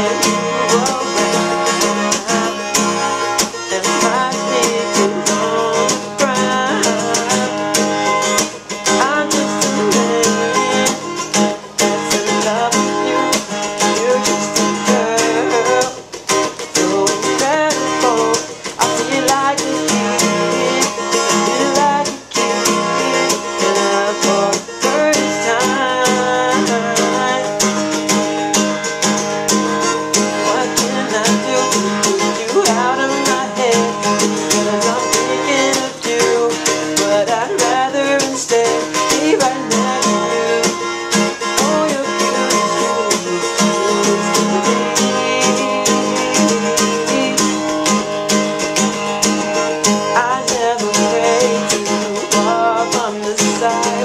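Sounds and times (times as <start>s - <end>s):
guitar playing pop-funk: 0.0s - 54.0s.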